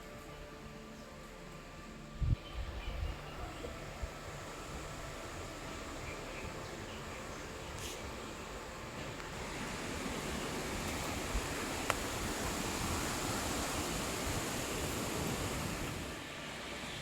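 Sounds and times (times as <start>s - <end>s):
outdoor nature rushing noise: 0.0s - 17.0s.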